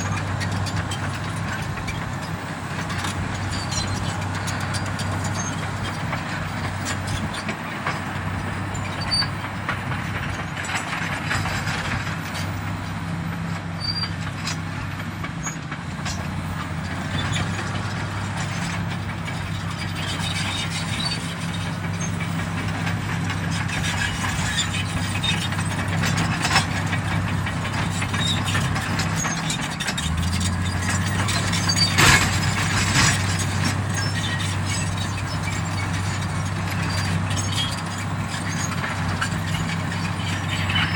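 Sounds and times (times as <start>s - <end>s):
bulldozer diesel engine running: 0.0s - 40.9s
metallic clanks of tracks: 0.0s - 40.9s.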